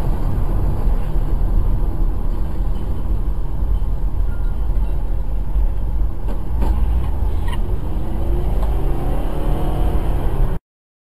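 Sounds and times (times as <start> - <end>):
car road and engine rumble: 0.0 - 10.6.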